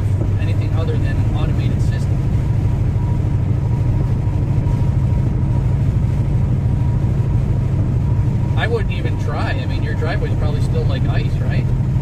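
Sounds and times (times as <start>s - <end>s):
car engine rumble: 0.0s - 12.0s
faint whine: 0.0s - 12.0s
road noise: 0.0s - 12.0s.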